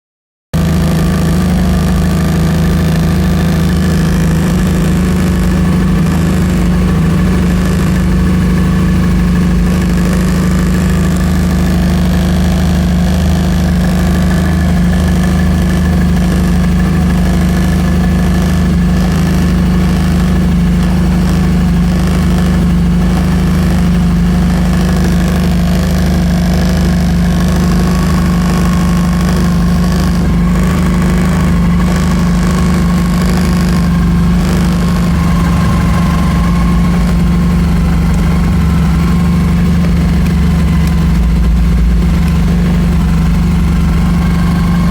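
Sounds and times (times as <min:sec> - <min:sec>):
vehicle engine low hum: 0:00.5 - 0:44.9
high buzz: 0:00.6 - 0:44.9.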